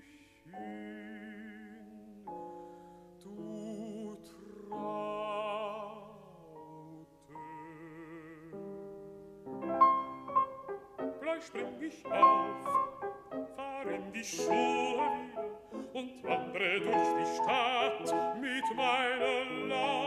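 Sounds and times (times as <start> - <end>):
baritone voice singing: 0.0 - 2.4, 3.2 - 8.8, 11.0 - 20.0
soft piano accompaniment: 0.0 - 20.0.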